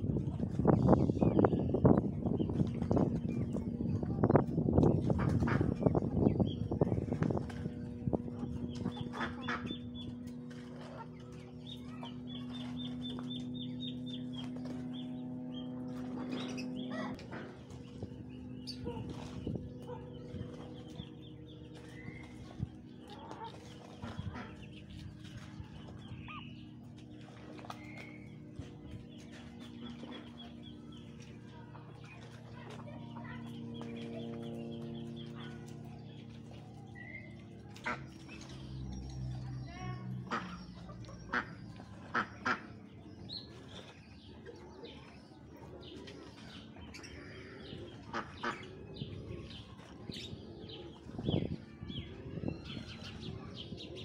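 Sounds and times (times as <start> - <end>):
low steady drone: 0.0 - 54.0
steady hum: 0.0 - 54.0
small birds chirping: 0.2 - 54.0.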